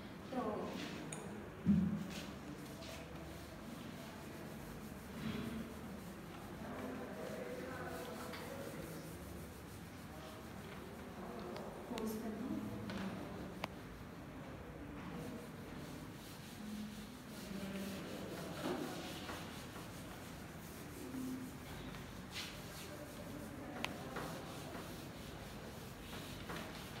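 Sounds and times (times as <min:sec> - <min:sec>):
eraser wiping a whiteboard: 0:02.0 - 0:13.2, 0:15.0 - 0:27.0.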